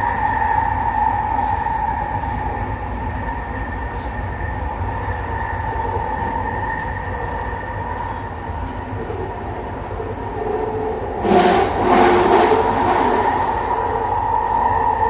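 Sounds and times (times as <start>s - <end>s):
rush of noise: 0.0s - 15.0s
train car whine and rumble: 0.0s - 15.0s.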